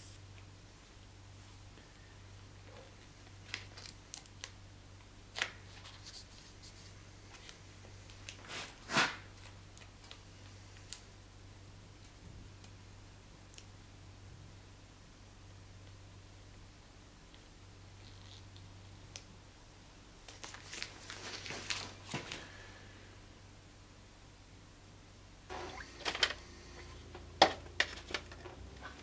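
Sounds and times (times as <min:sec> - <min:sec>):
low steady hum: 0:00.0 - 0:08.5, 0:09.3 - 0:29.0.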